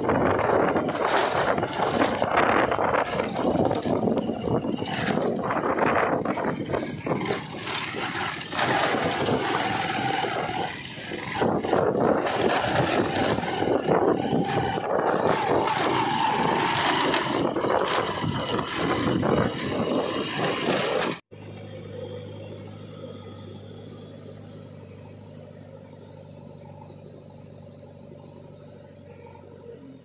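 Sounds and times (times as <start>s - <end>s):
backhoe loader engine hum: 0.0s - 30.0s
motorcycle engine: 0.0s - 30.0s
wind and road noise: 0.0s - 30.0s.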